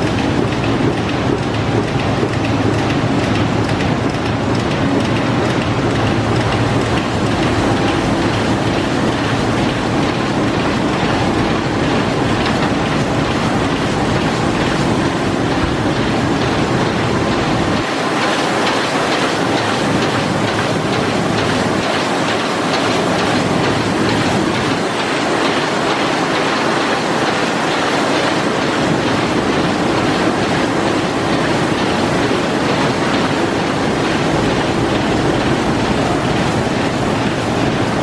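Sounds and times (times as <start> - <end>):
printing press clattering: 0.0 - 38.0.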